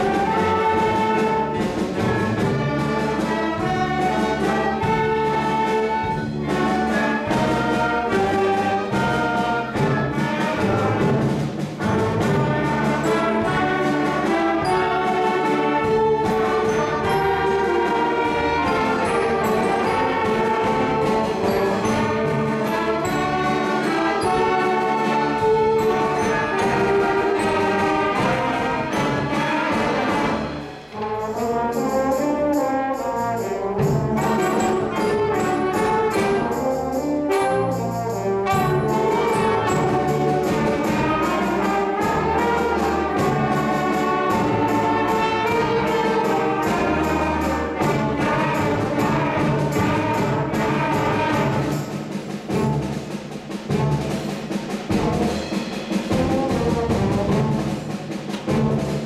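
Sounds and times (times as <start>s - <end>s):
concert band playing: 0.0s - 59.0s.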